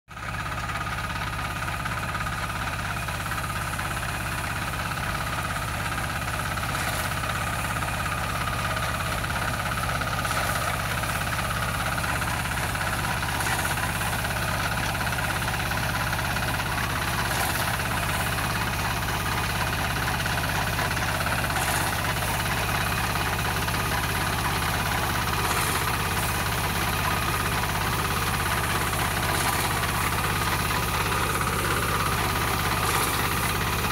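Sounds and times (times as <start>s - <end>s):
reaper engine running: 0.2s - 33.9s.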